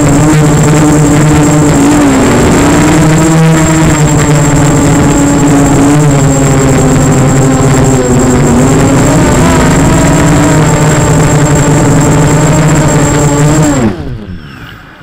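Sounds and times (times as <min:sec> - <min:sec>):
model aircraft motor humming: 0:00.0 - 0:14.4.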